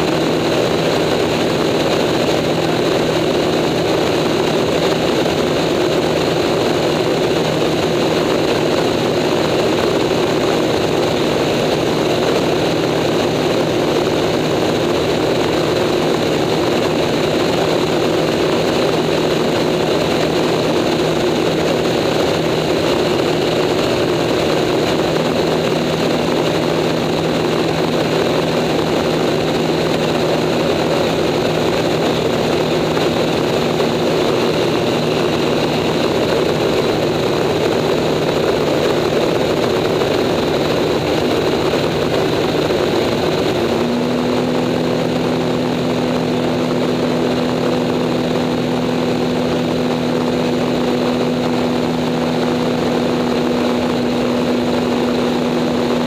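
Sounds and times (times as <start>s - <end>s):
propeller plane engine running: 0.0s - 56.0s.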